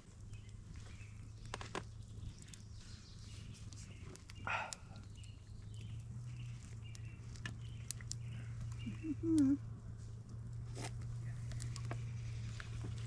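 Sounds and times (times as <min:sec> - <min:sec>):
campfire crackling and popping: 0:00.0 - 0:13.0
steady low hum: 0:00.0 - 0:13.0.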